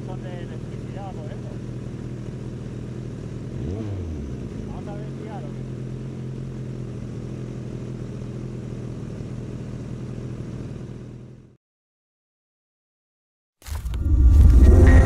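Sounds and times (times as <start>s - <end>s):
motorcycle engine running: 0.0s - 11.6s, 13.7s - 15.0s.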